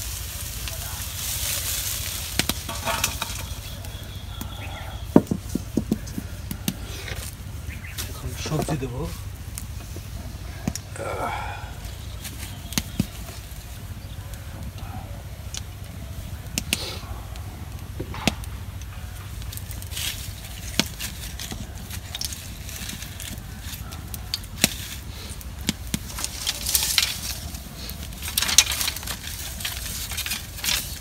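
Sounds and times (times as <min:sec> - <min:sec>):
fire crackling and popping: 0:00.0 - 0:31.0
straw and sticks rustling: 0:00.0 - 0:31.0.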